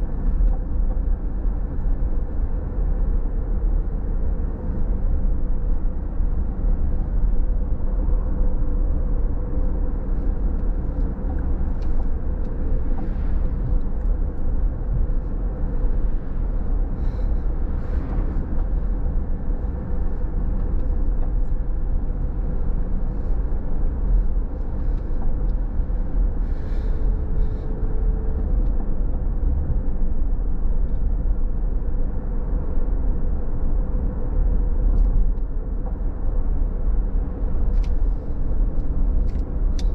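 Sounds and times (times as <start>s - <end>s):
car road rumble: 0.0s - 39.9s
faint steady hum: 0.0s - 39.9s.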